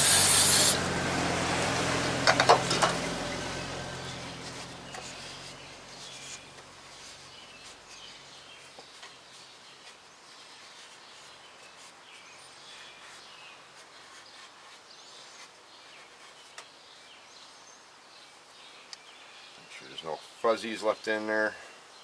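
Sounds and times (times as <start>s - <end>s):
faint birds chirping: 2.0s - 22.0s.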